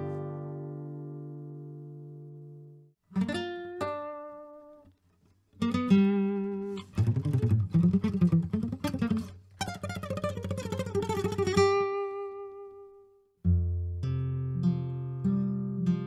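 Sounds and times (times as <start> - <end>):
plucked guitar tune: 0.0 - 16.0.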